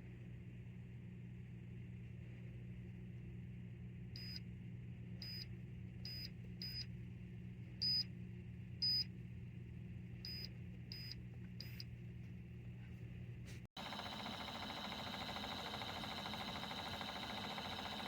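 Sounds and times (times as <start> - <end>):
steady low hum: 0.9 - 18.0.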